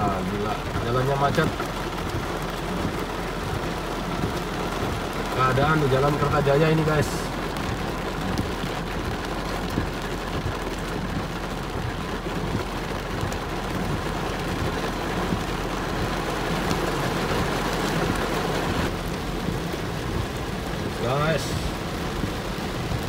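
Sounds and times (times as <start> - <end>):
heavy rain drumming on car roof: 0.0 - 23.0.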